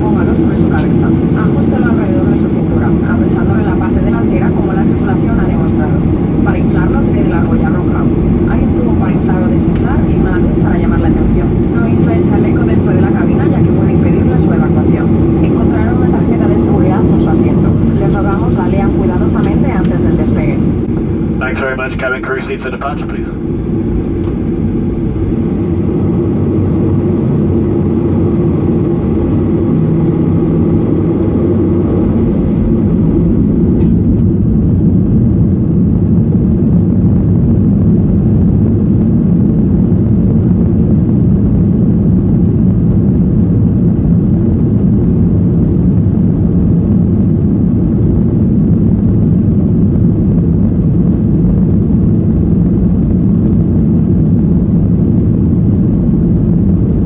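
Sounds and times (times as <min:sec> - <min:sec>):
jet engines inside cabin: 0:00.0 - 0:57.0.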